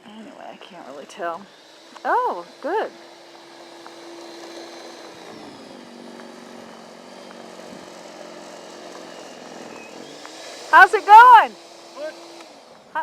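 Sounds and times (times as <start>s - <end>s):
snow blower engine running: 0.0s - 13.0s.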